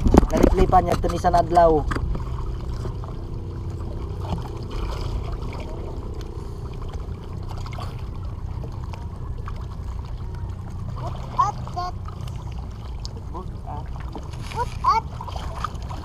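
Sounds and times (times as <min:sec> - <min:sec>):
seawater sloshing and trickling: 0:00.0 - 0:16.0
steady low rumble: 0:00.0 - 0:16.0.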